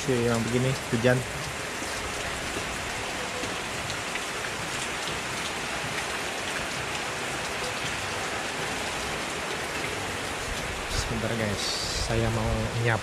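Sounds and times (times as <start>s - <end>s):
heavy rain hiss: 0.0s - 13.0s
raindrops pattering: 0.0s - 13.0s.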